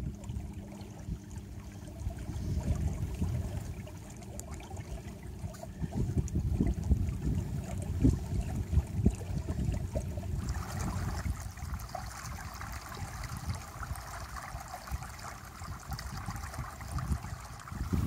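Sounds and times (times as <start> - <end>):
water rushing past a boat: 0.0 - 18.0
wind rumbling on microphone: 0.0 - 18.0.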